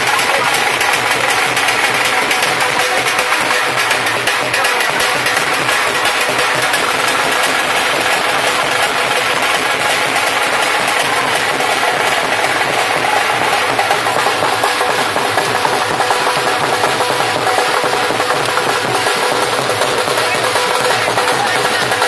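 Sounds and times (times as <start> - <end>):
fast drumming with music: 0.0 - 22.0.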